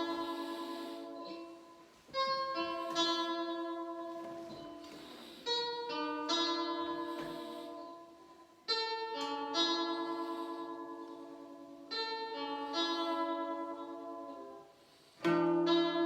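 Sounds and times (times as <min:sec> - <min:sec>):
slow ambient guitar music: 0:00.0 - 0:16.0.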